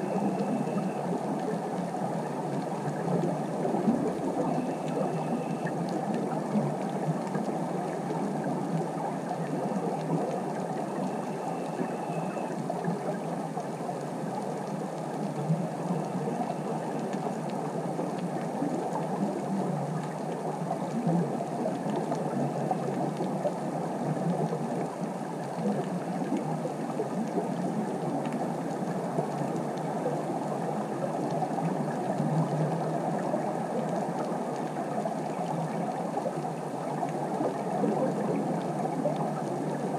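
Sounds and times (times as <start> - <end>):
crackling underwater hiss: 0.0 - 39.9.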